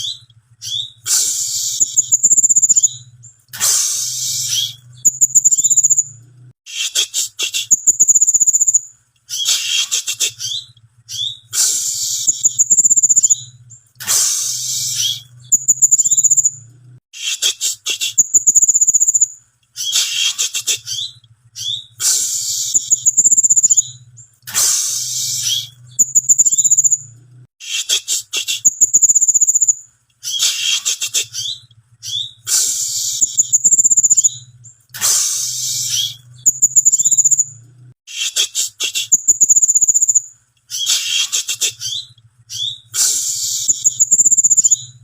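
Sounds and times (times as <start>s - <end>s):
bird harsh chattering: 0.0s - 3.0s, 3.6s - 6.0s, 6.7s - 16.5s, 17.2s - 27.0s, 27.6s - 34.4s, 35.0s - 37.4s, 38.1s - 44.9s
bird high thin whistles: 0.0s - 3.0s, 3.6s - 6.0s, 6.7s - 13.4s, 14.0s - 16.5s, 17.2s - 23.9s, 24.5s - 27.0s, 27.6s - 34.4s, 35.0s - 37.5s, 38.1s - 44.9s.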